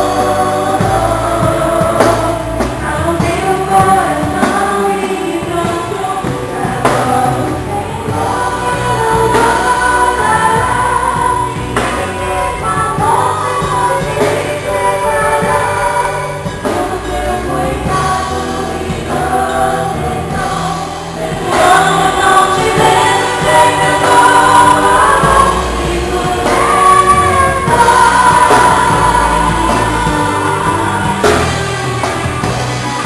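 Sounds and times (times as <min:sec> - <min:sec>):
band bass and percussion: 0:00.0 - 0:33.0
voices singing together: 0:00.0 - 0:33.0.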